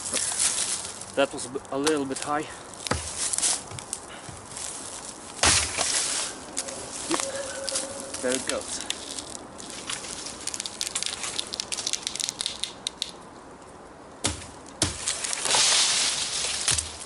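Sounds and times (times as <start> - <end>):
tree falling through twigs: 0.0 - 13.0, 14.2 - 17.0
dry leaves rustling: 0.0 - 13.2, 14.2 - 17.0.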